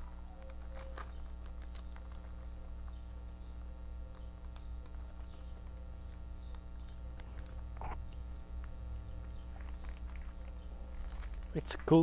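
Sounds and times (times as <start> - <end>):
low background rumble: 0.0 - 12.0
small birds chirping: 0.0 - 12.0.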